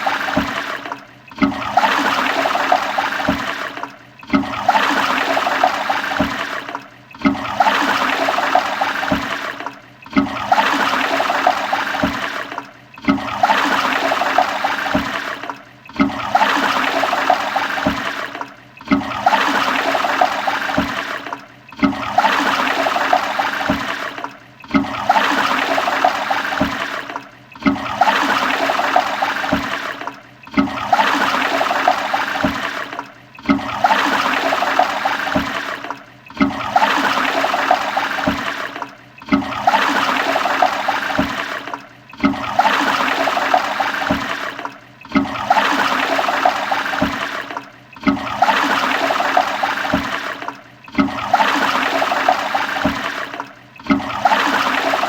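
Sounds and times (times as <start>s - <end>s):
toilet flushing: 0.0s - 55.0s.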